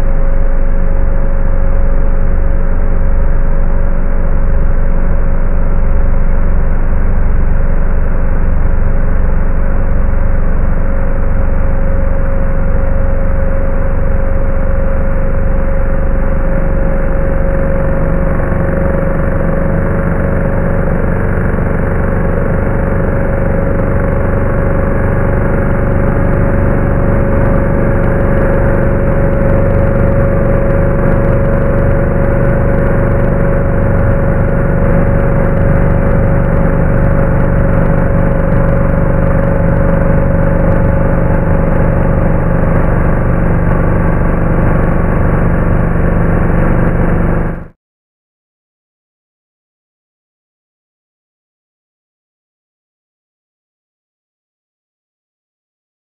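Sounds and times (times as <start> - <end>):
orbital sander running: 0.0 - 47.7.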